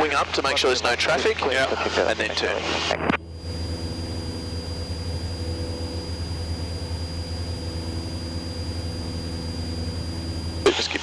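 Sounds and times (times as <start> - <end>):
airplane engine droning in cabin: 0.0 - 11.0.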